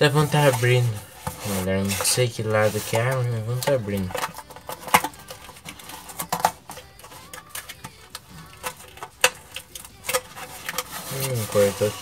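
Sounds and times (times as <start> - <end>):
cardboard and tape crackling: 0.0 - 12.0.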